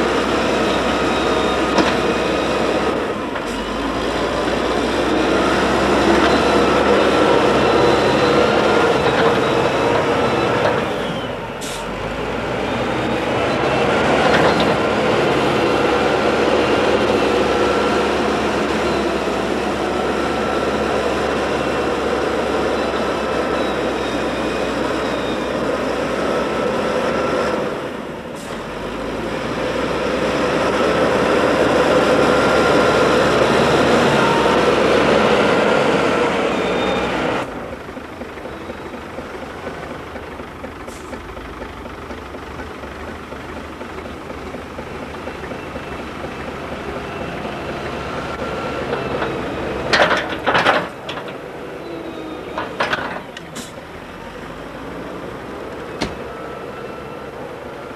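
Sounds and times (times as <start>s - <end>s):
wheel loader diesel engine running: 0.0s - 57.9s.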